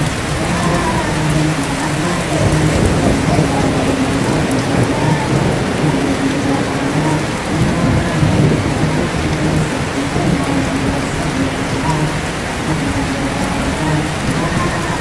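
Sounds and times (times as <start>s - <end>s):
heavy rain: 0.0s - 15.0s
person chanting faintly: 0.0s - 15.0s
thunder rumbling: 0.0s - 15.0s.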